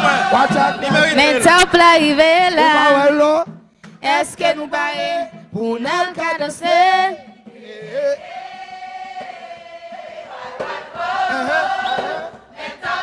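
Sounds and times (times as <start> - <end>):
voices singing and chanting together: 0.0 - 13.0.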